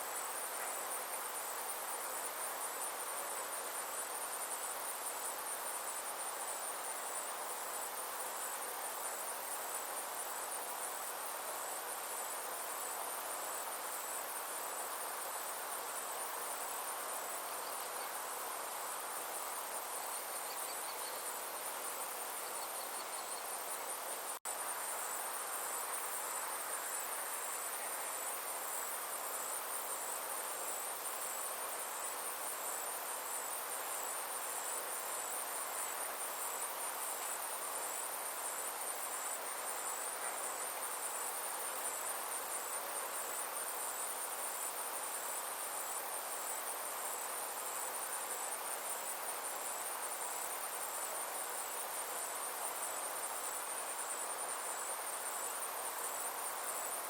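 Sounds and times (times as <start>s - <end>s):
insects trilling: 0.0s - 57.0s
soft background hiss: 0.0s - 57.0s.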